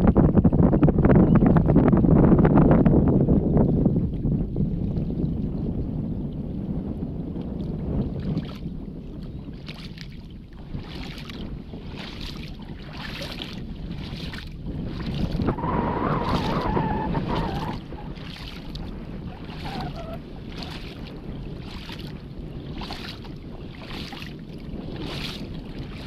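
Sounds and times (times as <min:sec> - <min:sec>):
boat motor rumble: 0:00.0 - 0:26.0
wind on microphone: 0:00.0 - 0:26.0
water splashing at hull: 0:02.9 - 0:26.0.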